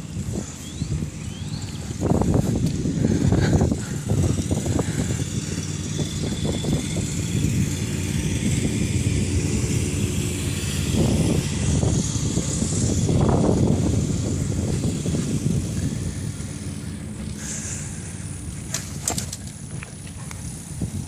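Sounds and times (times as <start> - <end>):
bicycle rumbling and rattling: 0.0 - 21.0
wind buffeting microphone: 0.0 - 21.0.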